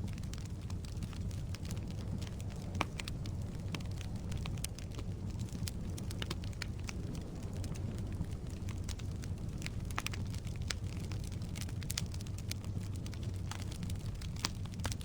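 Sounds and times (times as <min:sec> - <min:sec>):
fire rumbling: 0:00.0 - 0:15.0
firewood crackling and popping: 0:00.0 - 0:15.0.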